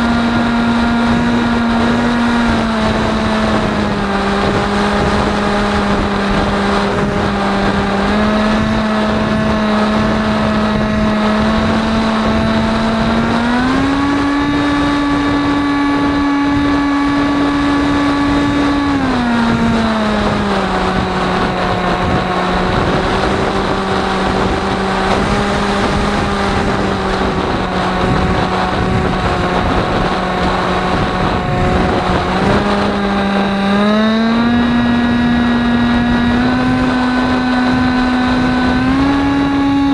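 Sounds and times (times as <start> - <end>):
electric motor and propeller whine: 0.0 - 39.9
wind noise: 0.0 - 39.9.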